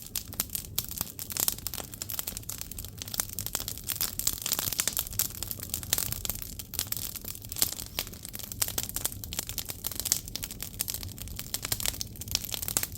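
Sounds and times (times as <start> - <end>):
firewood crackling and popping: 0.0 - 12.9
steady fire hiss: 0.0 - 12.9.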